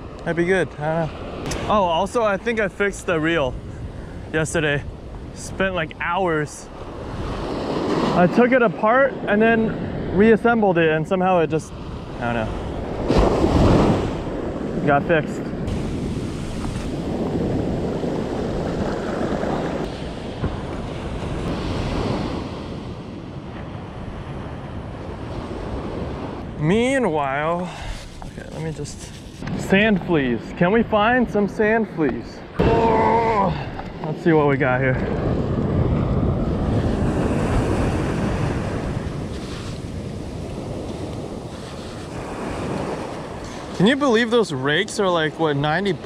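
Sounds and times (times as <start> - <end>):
ocean surf breaking: 0.0 - 46.0
wind buffeting microphone: 0.0 - 46.0.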